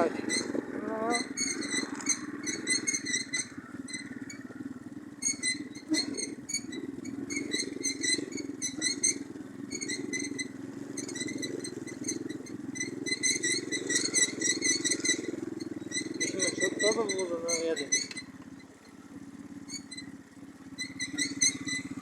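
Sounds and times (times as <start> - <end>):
moped engine running: 0.0 - 22.0.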